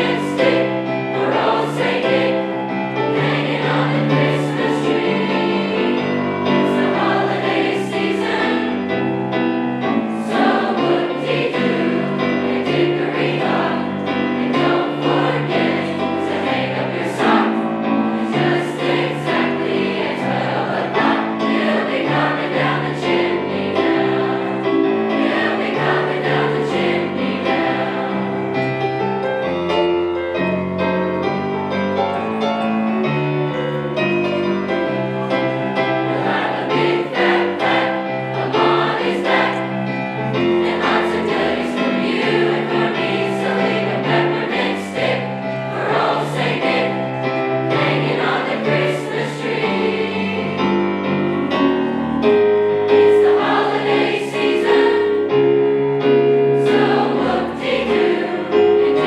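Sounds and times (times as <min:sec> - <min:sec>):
choir singing in parts: 0:00.0 - 0:29.4, 0:34.6 - 0:59.0
piano accompaniment: 0:00.0 - 0:59.0.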